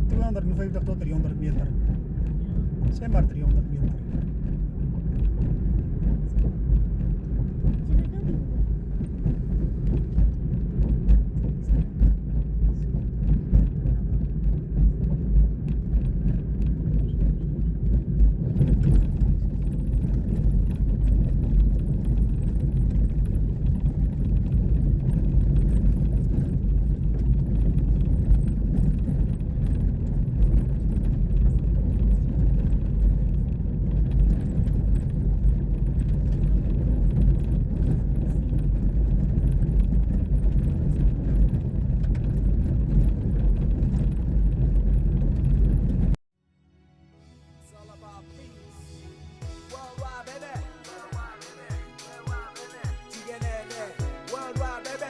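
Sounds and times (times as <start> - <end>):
knocks and rattles: 0.0 - 46.2
vehicle rumbling on rough track: 0.0 - 46.2.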